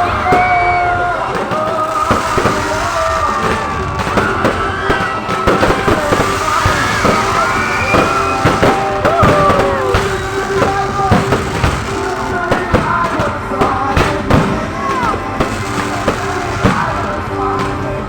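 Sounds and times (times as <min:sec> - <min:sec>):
fireworks bangs: 0:00.0 - 0:18.0
music playing: 0:00.0 - 0:18.0.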